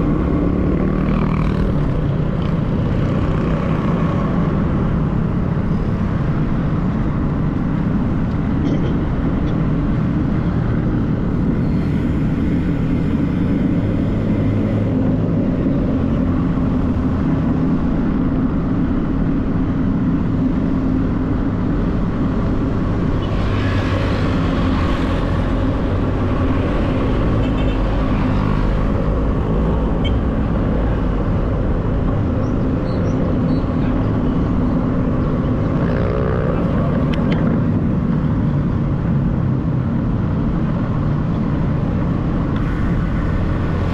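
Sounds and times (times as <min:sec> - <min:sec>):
road traffic rumble: 0:00.0 - 0:43.9.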